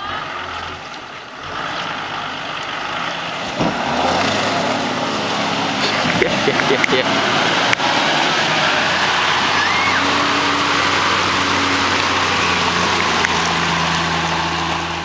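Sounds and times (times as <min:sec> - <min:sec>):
low engine note: 0:00.0 - 0:15.0
water splashing around wheels: 0:00.0 - 0:15.0.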